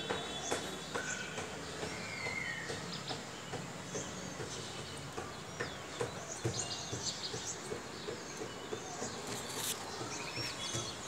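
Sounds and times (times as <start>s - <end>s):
light knocks: 0.0s - 11.0s
outdoor background noise: 0.0s - 11.0s
small birds chirping: 0.0s - 11.0s.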